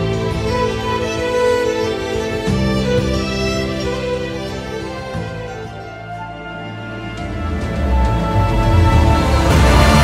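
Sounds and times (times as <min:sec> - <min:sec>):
orchestral music: 0:00.0 - 0:10.0.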